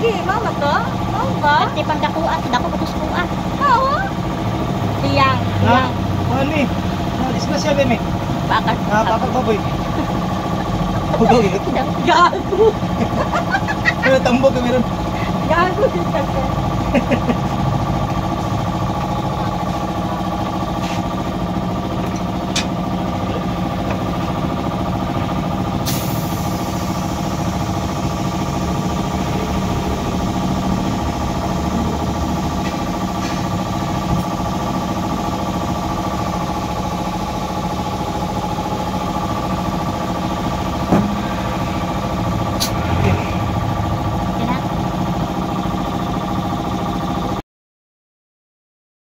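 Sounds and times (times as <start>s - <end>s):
motor running steadily: 0.0s - 47.4s.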